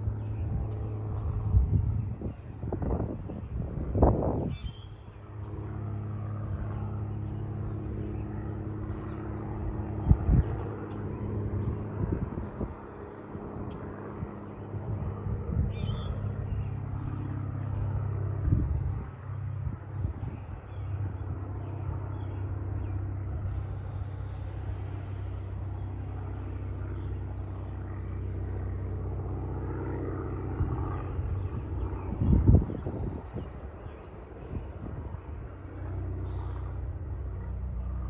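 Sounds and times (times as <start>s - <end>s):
wind buffeting microphone: 0.0s - 38.0s
plane piston engine droning: 5.1s - 38.0s.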